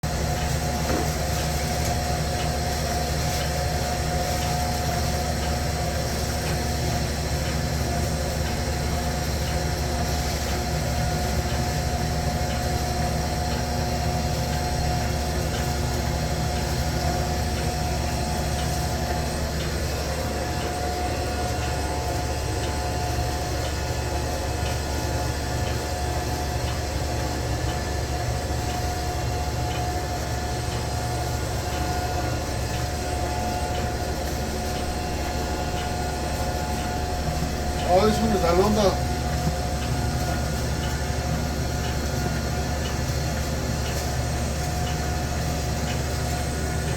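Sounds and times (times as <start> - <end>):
machine humming: 0.0 - 46.9.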